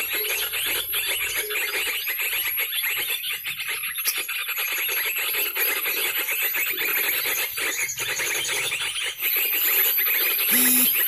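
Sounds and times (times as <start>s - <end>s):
bird calls from a speaker: 0.0s - 11.0s.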